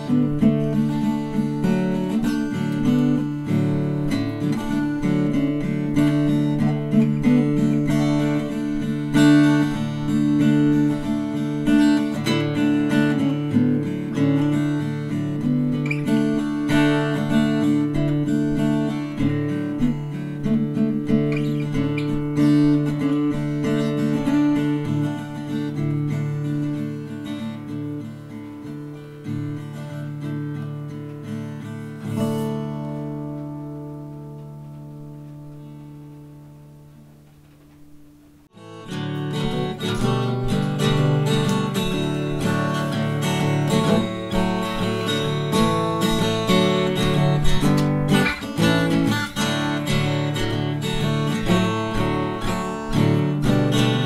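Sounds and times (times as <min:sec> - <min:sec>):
acoustic guitar music: 0:00.0 - 0:54.0.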